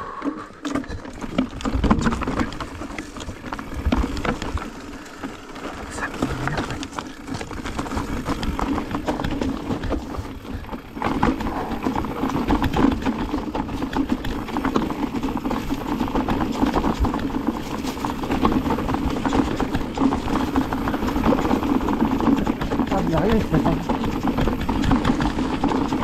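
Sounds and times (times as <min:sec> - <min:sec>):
bike rattling: 0:00.0 - 0:26.0
rolling noise: 0:00.0 - 0:26.0
tyres crunching over stones: 0:00.4 - 0:26.0.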